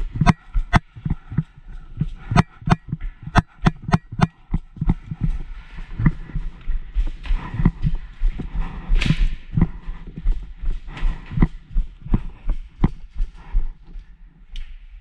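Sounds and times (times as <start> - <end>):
wind rumble on microphone: 0.0 - 14.0
footsteps walking: 0.0 - 14.6.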